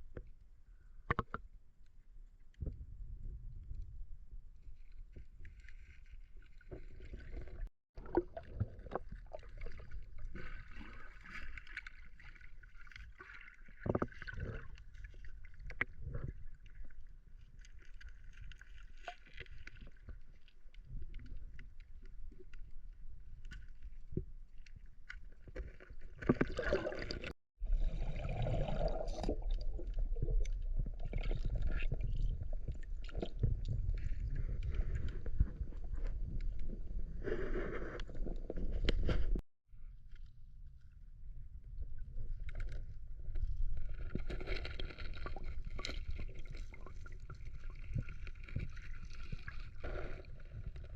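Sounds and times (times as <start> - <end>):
water splashing and sloshing: 4.8 - 39.4, 42.2 - 50.9.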